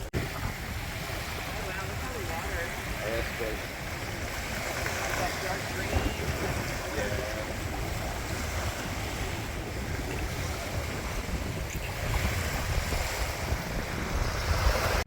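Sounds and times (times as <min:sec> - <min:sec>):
waves washing onto beach: 0:00.0 - 0:15.0
wind buffeting microphone: 0:00.0 - 0:15.0.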